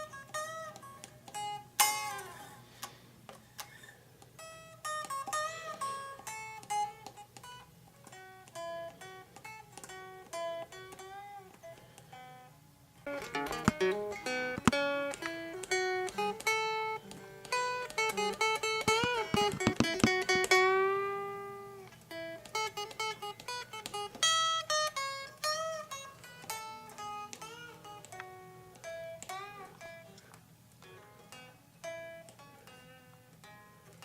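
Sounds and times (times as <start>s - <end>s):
solo blues guitar: 0.0s - 34.0s.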